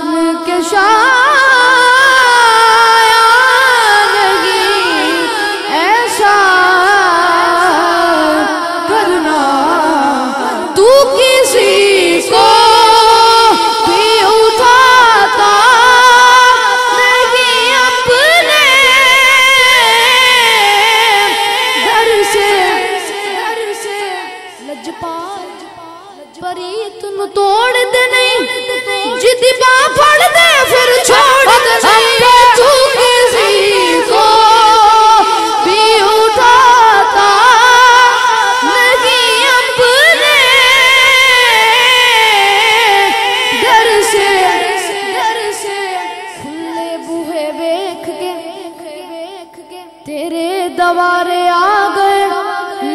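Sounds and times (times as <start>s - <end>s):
boy singing into a microphone: 0.0s - 52.9s.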